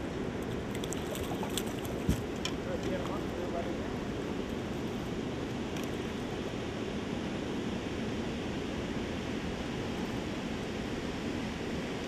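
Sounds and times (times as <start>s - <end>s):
rippling lake water: 0.0s - 12.0s.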